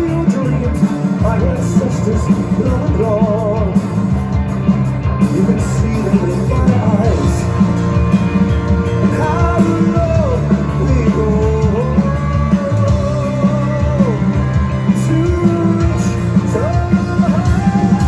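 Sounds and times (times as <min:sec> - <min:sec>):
heavy rock band playing: 0:00.0 - 0:18.0
lead guitar bending melody: 0:00.0 - 0:18.0.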